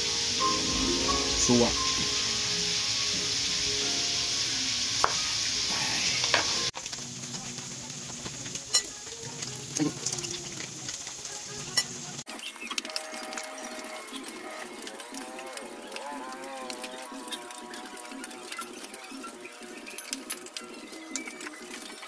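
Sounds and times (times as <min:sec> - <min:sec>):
sizzling hiss: 0:00.0 - 0:22.0.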